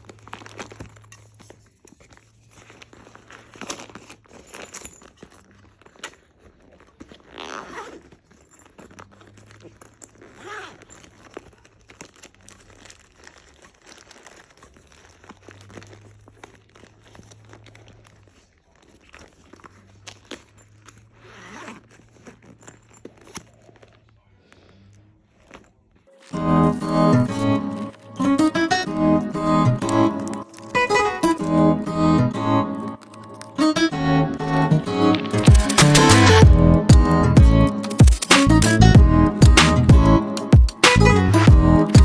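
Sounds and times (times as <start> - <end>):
packaging rustling: 0.0 - 24.2, 25.3 - 38.7
zipper pulls: 0.0 - 42.0.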